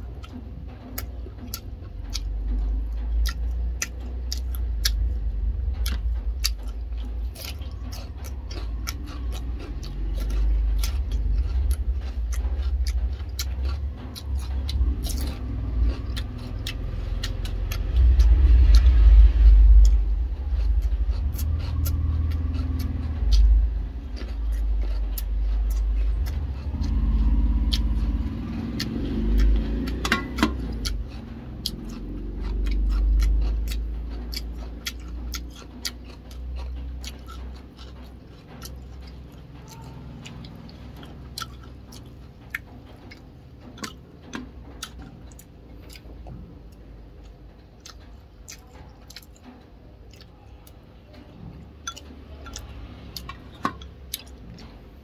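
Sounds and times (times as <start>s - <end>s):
low rumble: 0.0s - 55.0s
man chewing food: 0.0s - 55.0s.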